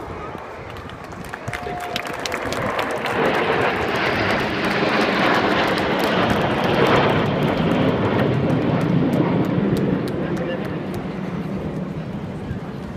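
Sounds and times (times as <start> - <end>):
jets flying past: 2.0 - 12.9.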